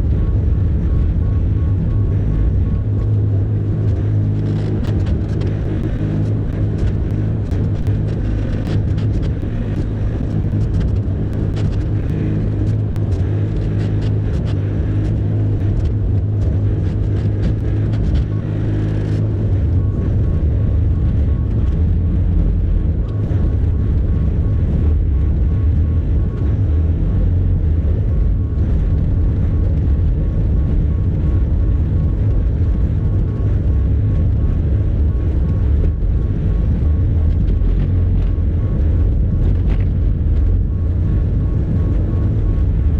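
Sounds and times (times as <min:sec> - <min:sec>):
thin steady whine: 0:00.0 - 0:42.9.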